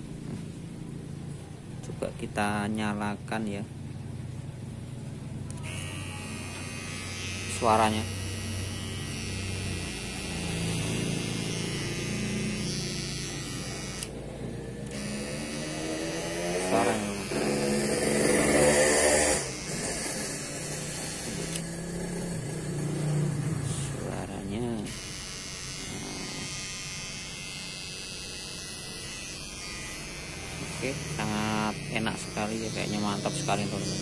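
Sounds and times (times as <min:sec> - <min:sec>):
hair clipper motor buzz: 0:05.4 - 0:34.0.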